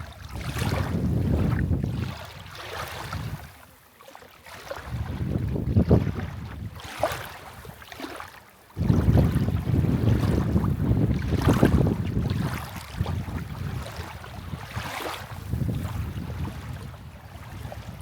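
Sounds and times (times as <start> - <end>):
wind buffeting microphone: 0.0 - 3.5, 4.8 - 7.8, 8.8 - 18.0.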